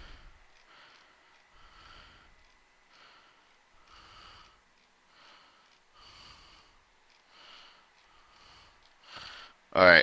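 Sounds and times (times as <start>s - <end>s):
faint breathing: 0.0s - 9.7s.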